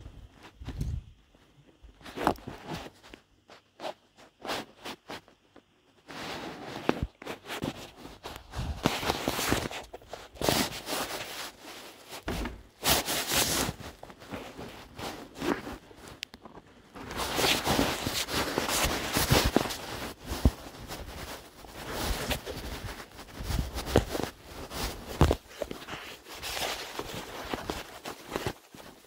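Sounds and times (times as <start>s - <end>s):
footsteps scraping and rustling: 0.1s - 29.0s.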